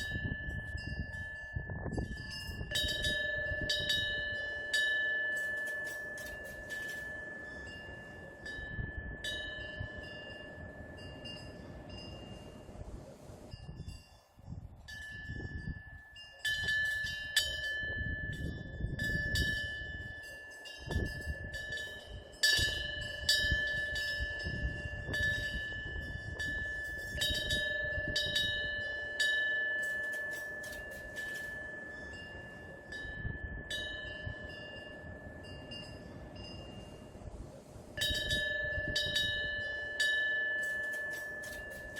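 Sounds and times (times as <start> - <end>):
low wind rumble: 0.0 - 41.9
wind bell ringing: 0.0 - 41.9.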